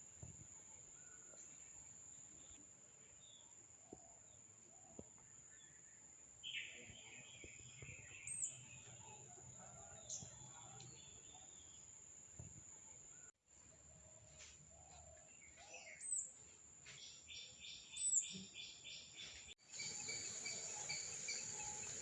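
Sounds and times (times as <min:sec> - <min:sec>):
bird chirping: 0:01.0 - 0:12.0, 0:14.3 - 0:22.0.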